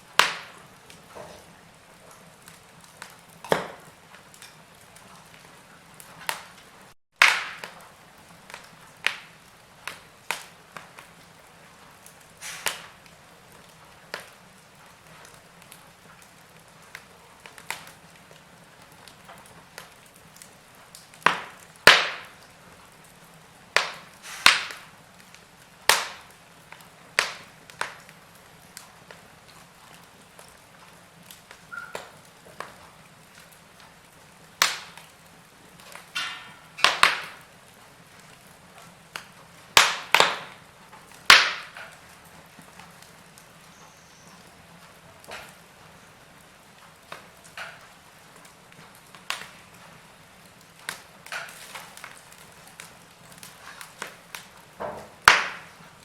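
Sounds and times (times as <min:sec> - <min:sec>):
faint steady hiss: 0:00.0 - 0:56.0
wood fire crackling and popping: 0:00.0 - 0:56.0.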